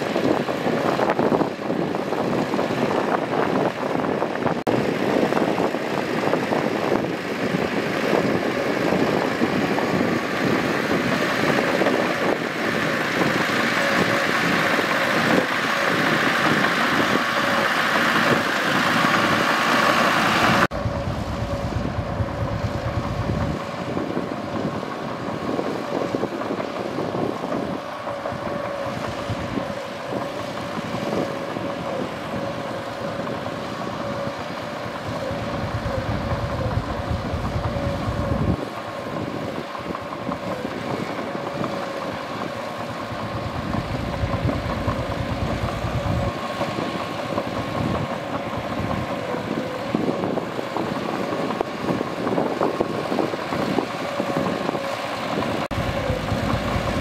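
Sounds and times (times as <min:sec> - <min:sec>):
bulldozer diesel engine running: 0:00.0 - 0:57.0
steady machine whine: 0:00.0 - 0:57.0.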